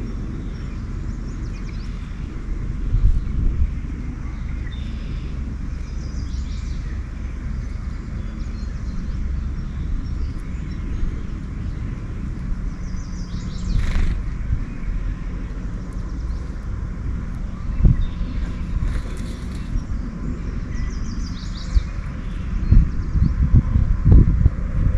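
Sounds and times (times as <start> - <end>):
songbirds chirping: 0.0 - 24.2
steady low rumble: 0.0 - 24.9.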